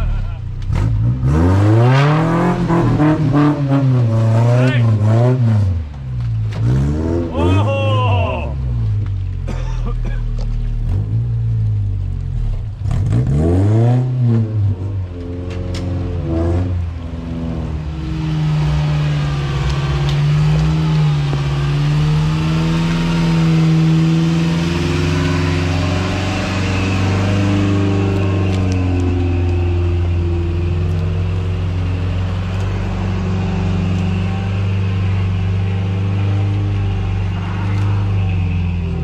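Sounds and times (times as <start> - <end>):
off-road vehicle engines revving: 0.0 - 39.0.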